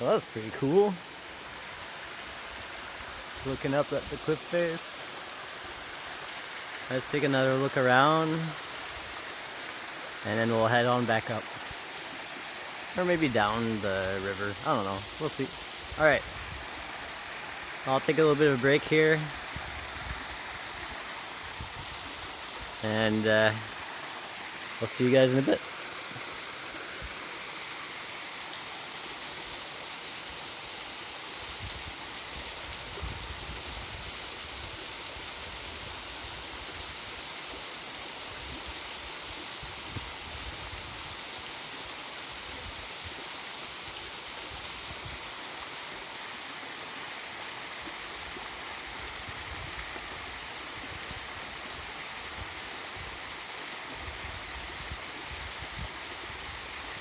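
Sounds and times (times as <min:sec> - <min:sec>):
waterfall and river rushing: 0:00.0 - 0:57.0.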